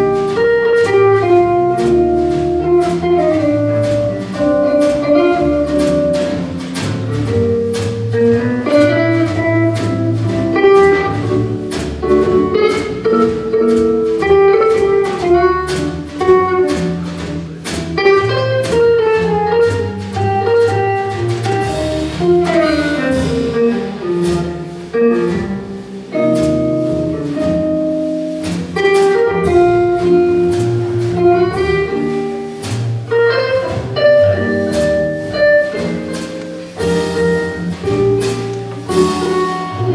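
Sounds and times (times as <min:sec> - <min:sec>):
double bass: 0:00.0 - 0:39.9
jazz guitar melody: 0:00.0 - 0:39.9.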